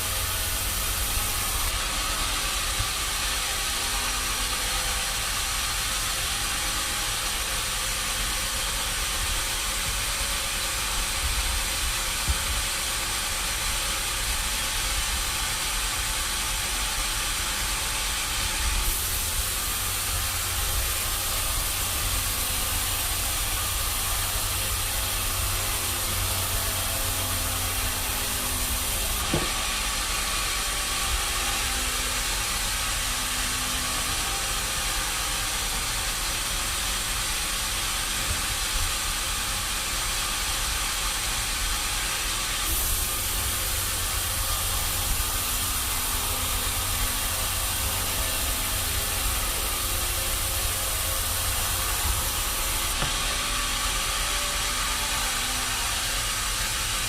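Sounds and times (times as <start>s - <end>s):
loud hissing machine noise: 0.0s - 57.0s.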